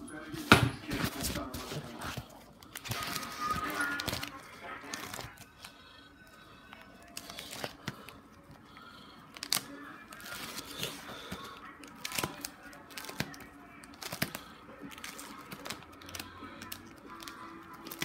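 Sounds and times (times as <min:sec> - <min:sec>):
plastic disc sleeves crinkling: 0:00.8 - 0:05.8, 0:06.6 - 0:18.0.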